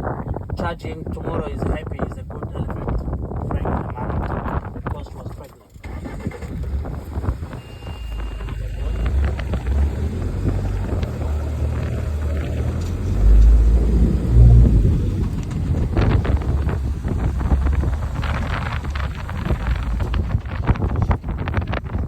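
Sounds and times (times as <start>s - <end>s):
wind buffeting microphone: 0.0s - 22.0s
vehicle engine rumbling: 1.4s - 22.0s.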